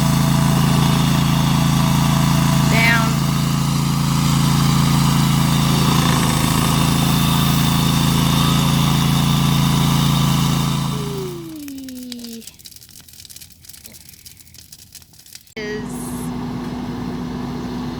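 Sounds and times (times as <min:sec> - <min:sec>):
engine humming and winding down: 0:00.0 - 0:12.8, 0:15.6 - 0:17.9.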